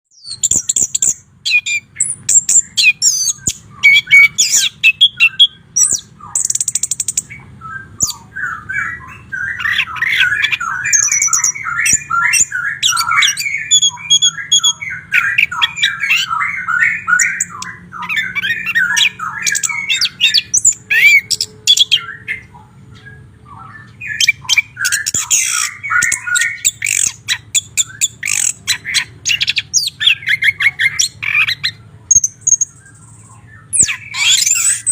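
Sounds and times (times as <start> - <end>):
bird singing: 0.1 - 34.9.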